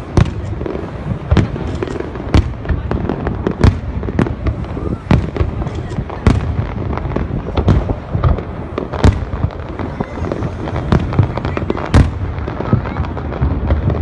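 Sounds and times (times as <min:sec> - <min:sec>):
fireworks bangs: 0:00.0 - 0:14.0
fireworks crackling and popping: 0:00.0 - 0:14.0.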